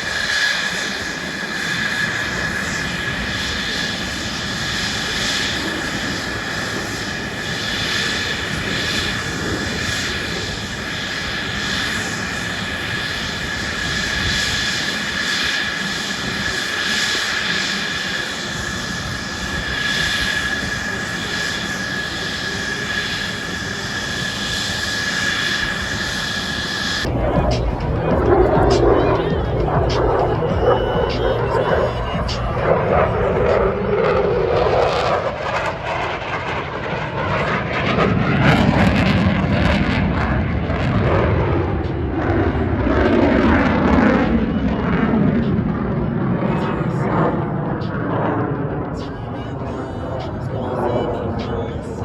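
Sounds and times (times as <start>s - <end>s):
aircraft engine running: 0.0s - 52.0s.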